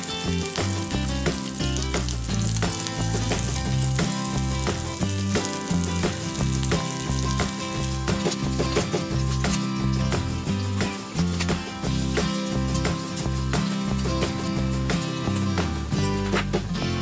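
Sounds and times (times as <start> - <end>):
meat sizzling in a frying pan: 0.0 - 16.3
background music: 0.0 - 17.0.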